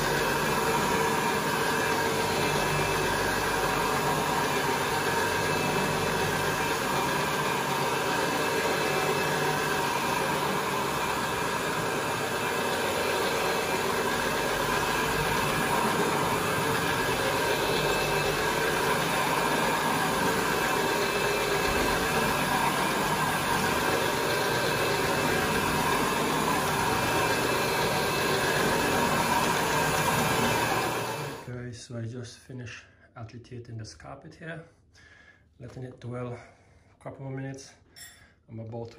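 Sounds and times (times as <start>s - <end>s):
carpet brushing machine running: 0.0s - 31.5s.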